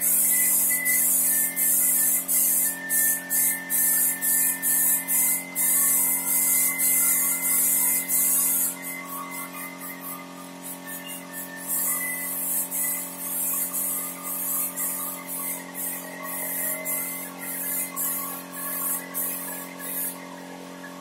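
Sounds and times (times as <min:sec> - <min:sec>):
spray gun hissing: 0:00.0 - 0:20.3
steady hum: 0:00.0 - 0:21.0.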